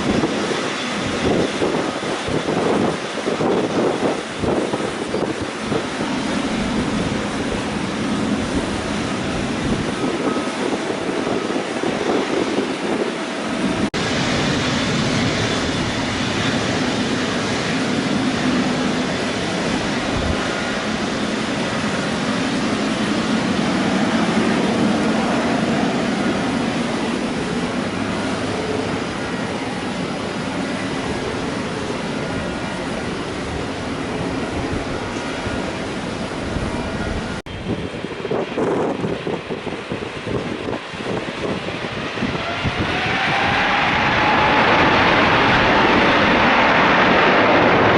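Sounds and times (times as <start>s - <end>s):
jet engines at takeoff power: 0.0s - 47.9s
wind on microphone: 0.0s - 47.9s.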